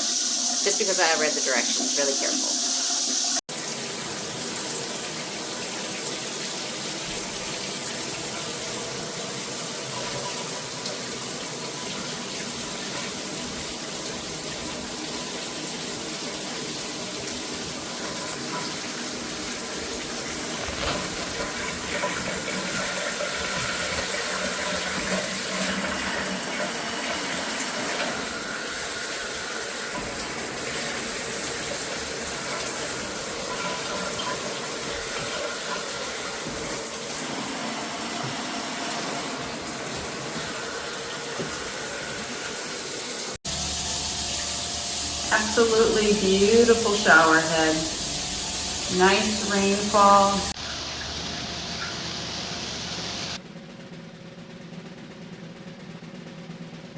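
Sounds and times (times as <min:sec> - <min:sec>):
shower water spraying: 0:00.0 - 0:53.4.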